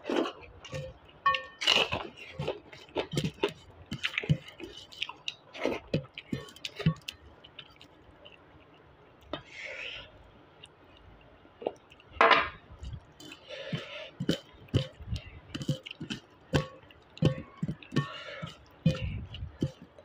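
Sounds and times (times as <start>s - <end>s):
fingers squishing food on plate: 0.7s - 9.5s, 10.6s - 20.0s.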